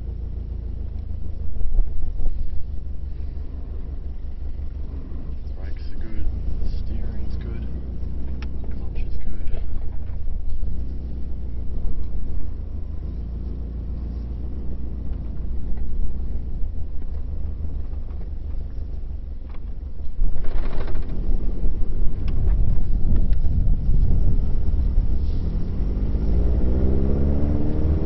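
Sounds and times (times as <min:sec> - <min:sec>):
car engine drone: 0:00.0 - 0:28.0
road noise: 0:00.0 - 0:28.0.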